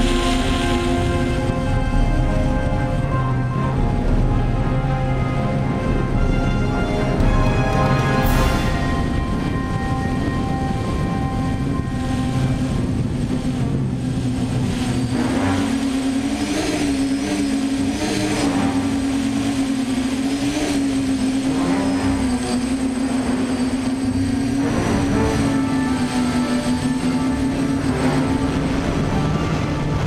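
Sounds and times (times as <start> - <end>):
drone motors buzzing hum: 0.0 - 30.0.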